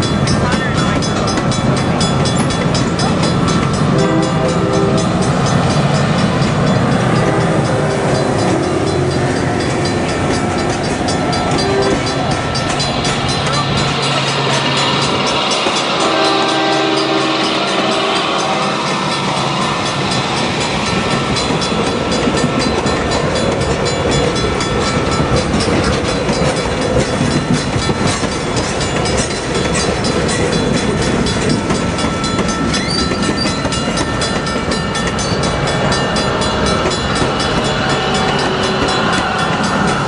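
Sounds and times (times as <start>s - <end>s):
crossing signal bell ringing: 0.0s - 40.0s
train wheels on rails: 0.0s - 40.0s.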